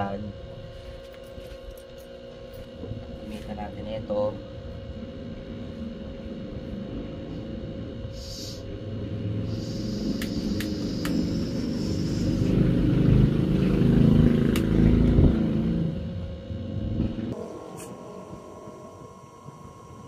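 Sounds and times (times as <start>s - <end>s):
gas torch flame rumbling: 0.0s - 20.0s.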